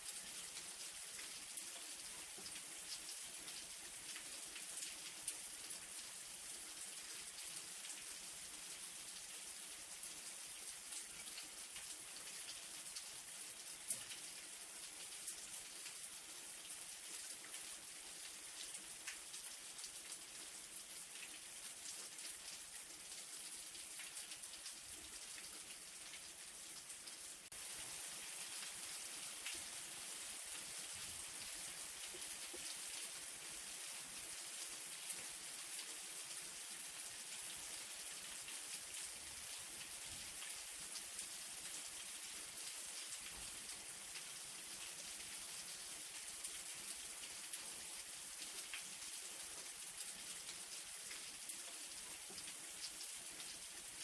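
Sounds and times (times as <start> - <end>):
light rain hiss: 0.0 - 54.0.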